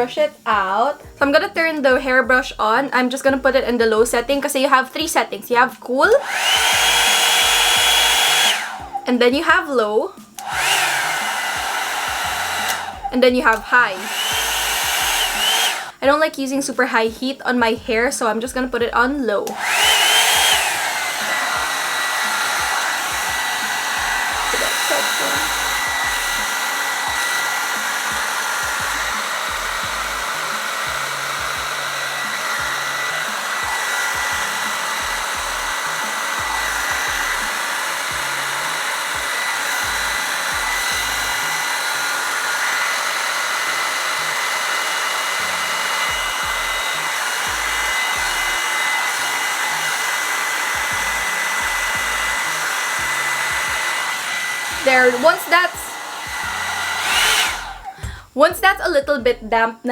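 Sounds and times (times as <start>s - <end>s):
hair dryer brush running: 5.6s - 58.3s.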